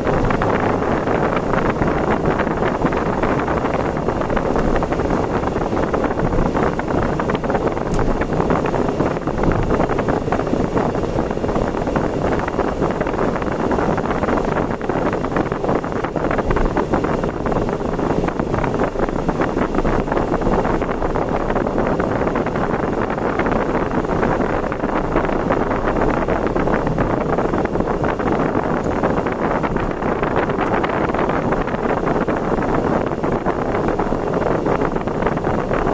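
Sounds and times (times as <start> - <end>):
wind and road noise: 0.0 - 35.9
wind buffeting microphone: 0.0 - 35.9.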